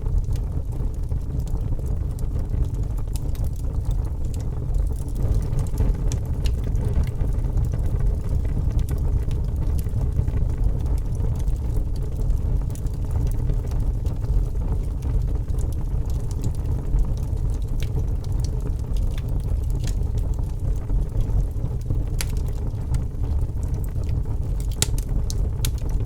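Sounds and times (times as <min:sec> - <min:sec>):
fire crackles: 0:00.0 - 0:26.0
fireplace flames rumbling: 0:00.0 - 0:26.0.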